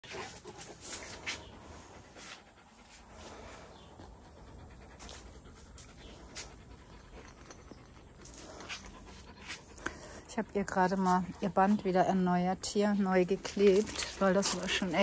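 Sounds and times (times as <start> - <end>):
dogs panting: 0.0 - 15.0.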